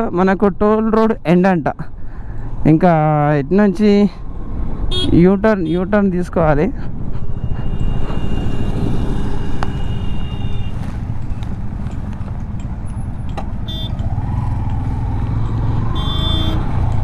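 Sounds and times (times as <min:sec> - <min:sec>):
motorcycle engine and road rumble: 0:00.0 - 0:17.0
traffic: 0:00.0 - 0:17.0.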